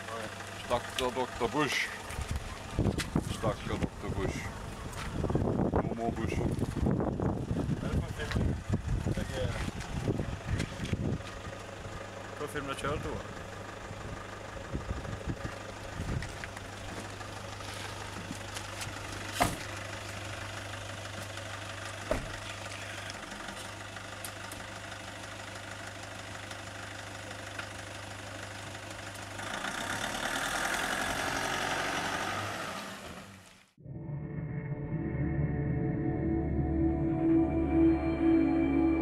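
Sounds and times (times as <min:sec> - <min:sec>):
pickup engine idling and revving: 0:00.0 - 0:33.6.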